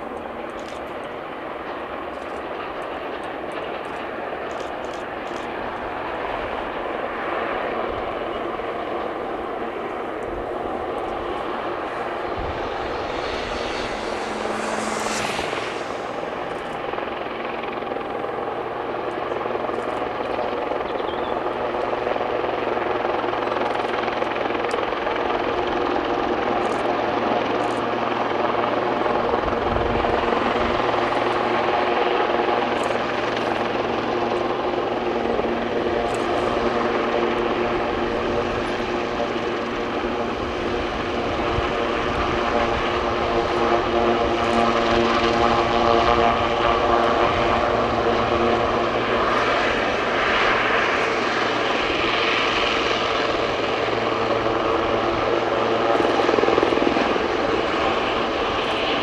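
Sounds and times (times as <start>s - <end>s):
aircraft engine drone: 0.0s - 59.0s.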